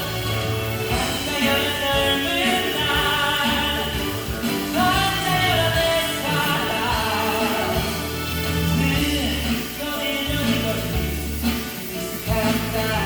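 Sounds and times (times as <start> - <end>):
song with singing voice: 0.0 - 13.0.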